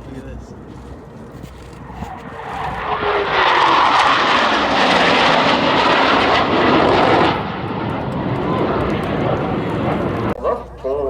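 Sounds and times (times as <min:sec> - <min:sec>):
airplane engine passing close: 0:00.0 - 0:10.4.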